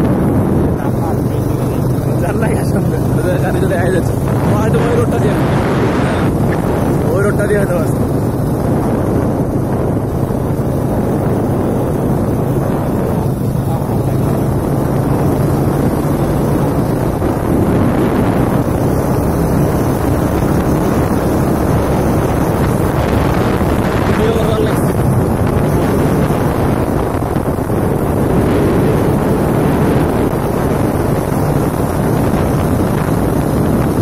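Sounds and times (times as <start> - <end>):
vehicle engine and road noise: 0.0 - 34.0
wind over microphone: 0.0 - 34.0.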